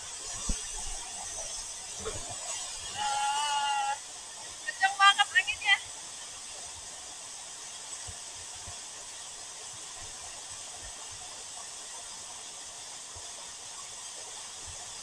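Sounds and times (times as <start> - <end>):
waterfall hiss: 0.0 - 15.0.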